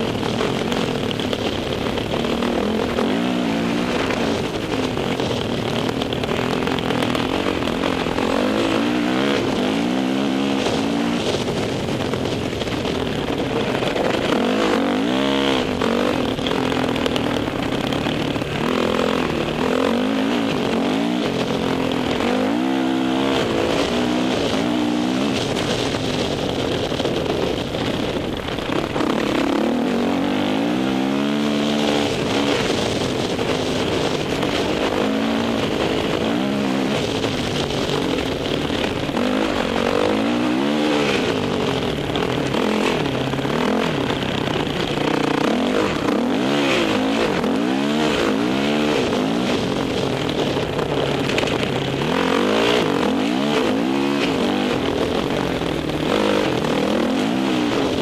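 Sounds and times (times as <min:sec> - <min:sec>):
dirt bike engine revving: 0:00.0 - 0:58.0
wind and tyre noise: 0:00.0 - 0:58.0.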